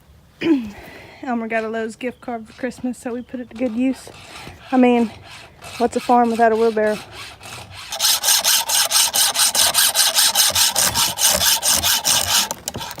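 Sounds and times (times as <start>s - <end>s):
hand file scraping chainsaw chain: 1.5s - 13.0s.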